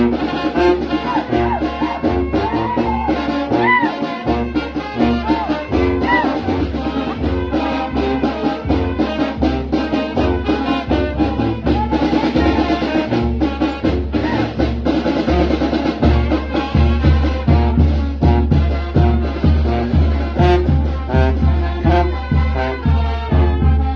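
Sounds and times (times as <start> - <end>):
brass band playing: 0.0 - 23.9.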